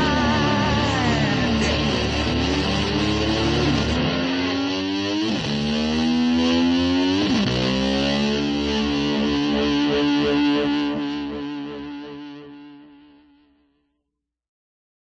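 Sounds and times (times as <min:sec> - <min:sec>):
distorted electric guitar: 0:00.0 - 0:13.6.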